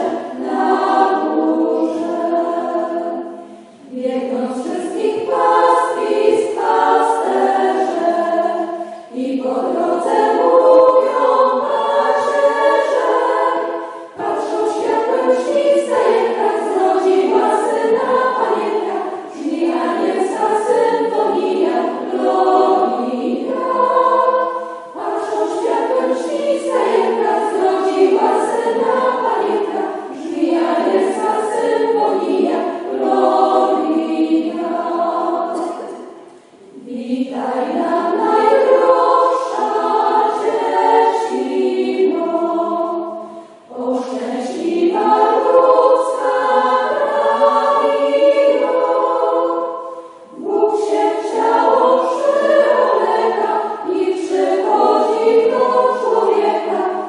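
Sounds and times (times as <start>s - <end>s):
women's choir singing a carol: 0.0s - 57.0s.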